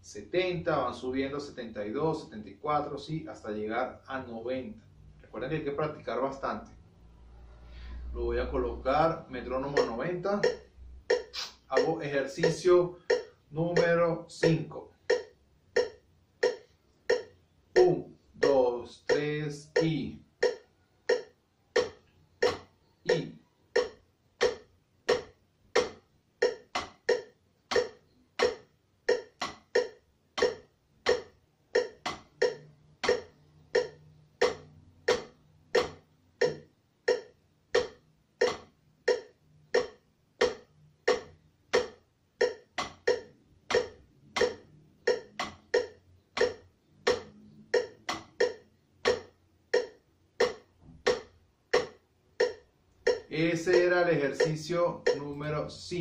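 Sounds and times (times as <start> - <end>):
drumsticks tapping practice pad: 8.0 - 56.0.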